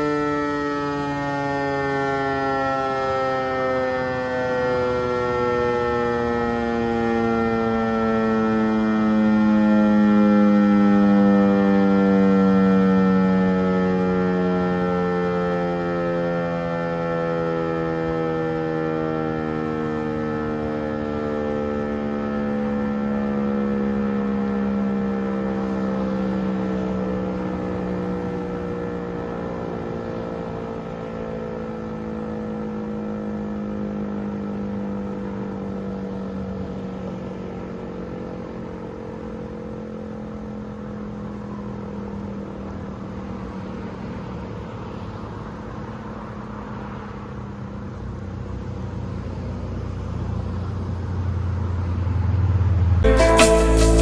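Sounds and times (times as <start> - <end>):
electronic siren steady tone: 0.0 - 48.4.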